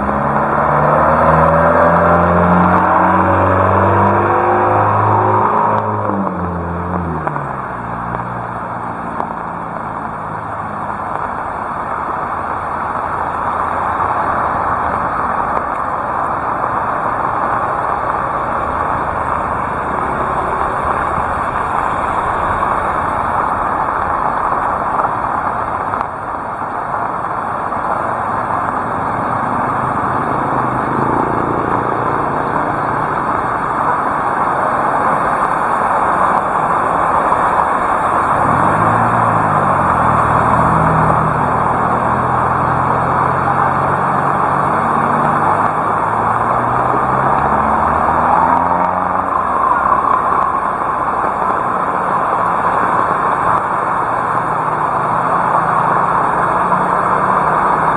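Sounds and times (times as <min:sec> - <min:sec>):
vehicle engine passing: 0:00.0 - 0:26.0, 0:26.9 - 0:57.9
heavy rain falling: 0:00.0 - 0:57.9.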